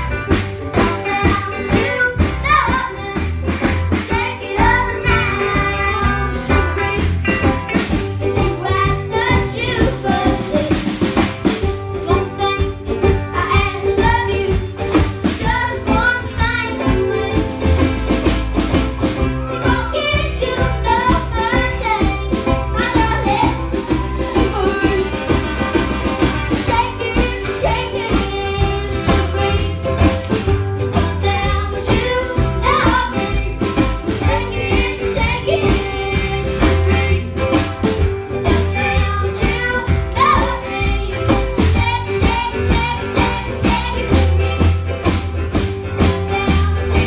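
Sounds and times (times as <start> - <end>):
acoustic guitar: 0.0 - 47.0
electric guitar: 0.0 - 47.0
ukulele: 0.0 - 47.0
upright bass: 0.0 - 47.0
girl singing: 0.6 - 7.3, 8.2 - 10.9, 11.9 - 14.7, 15.4 - 17.7, 19.5 - 25.3, 26.6 - 30.1, 30.8 - 37.6, 38.4 - 44.7, 45.9 - 47.0.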